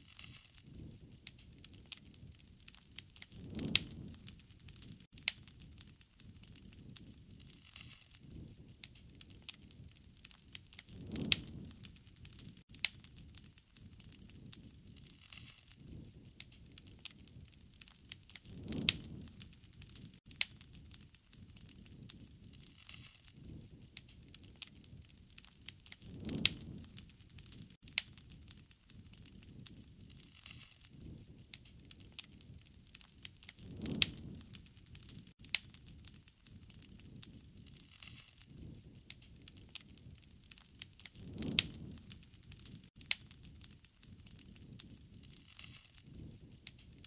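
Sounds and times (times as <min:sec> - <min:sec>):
soft whoosh of flames: 0:00.0 - 0:47.0
wood fire crackling: 0:00.0 - 0:47.0.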